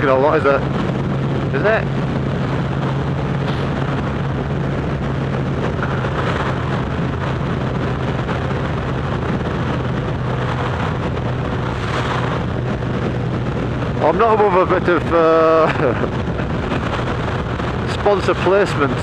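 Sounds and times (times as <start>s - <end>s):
motorcycle engine cruising: 0.0s - 19.0s
wind rushing over microphone: 0.0s - 19.0s.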